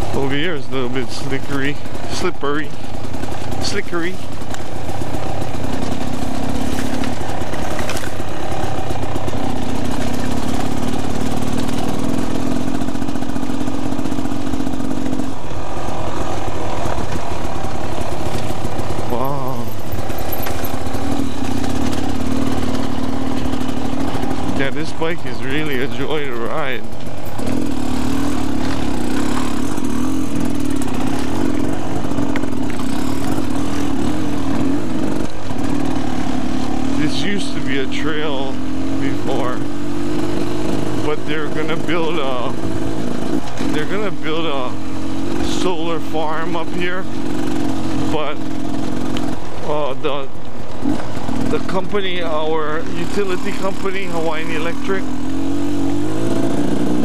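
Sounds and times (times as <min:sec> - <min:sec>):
dirt bike engine running: 0:00.0 - 0:57.0
road and wind noise: 0:00.0 - 0:57.0.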